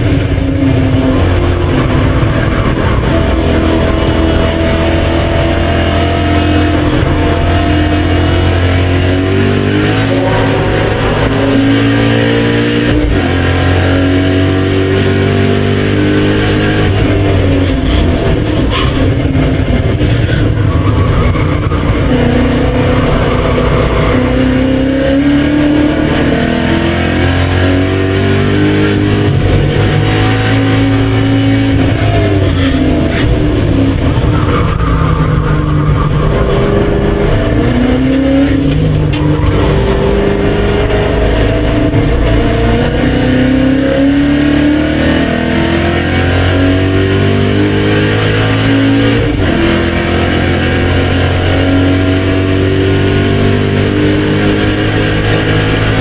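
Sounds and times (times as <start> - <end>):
car engine revving under acceleration: 0.0 - 56.0.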